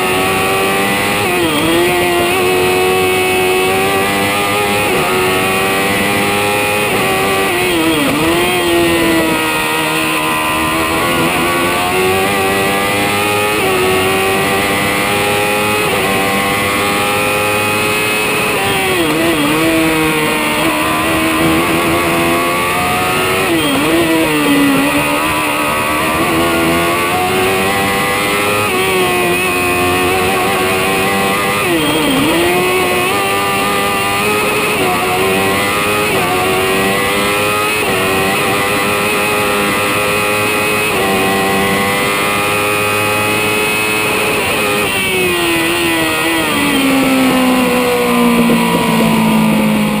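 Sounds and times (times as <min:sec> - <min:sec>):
race car engine revving: 0:00.0 - 0:50.0.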